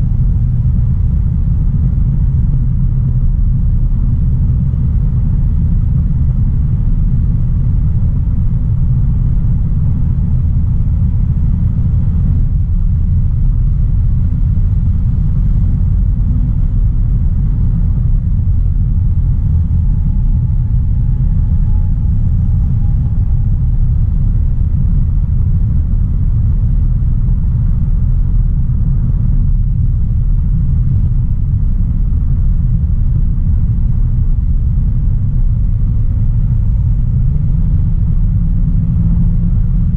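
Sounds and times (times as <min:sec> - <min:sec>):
car engine rumble: 0:00.0 - 0:39.9
road noise: 0:04.7 - 0:39.9.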